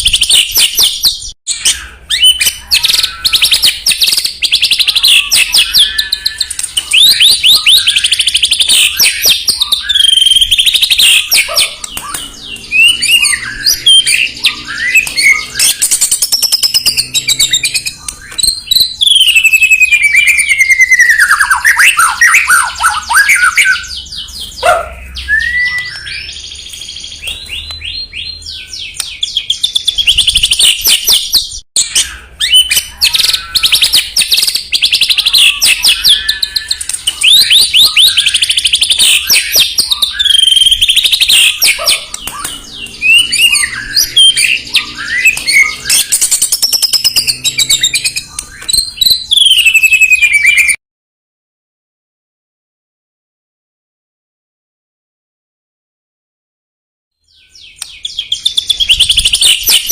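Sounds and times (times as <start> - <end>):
songbird singing whistles and trills: 0.0 - 50.8, 57.2 - 59.9.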